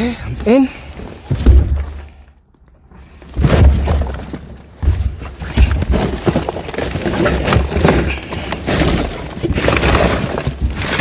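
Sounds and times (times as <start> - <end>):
debris clattering and crackling: 0.4 - 11.0
heavy thumps and knocks: 1.1 - 2.3, 3.3 - 11.0.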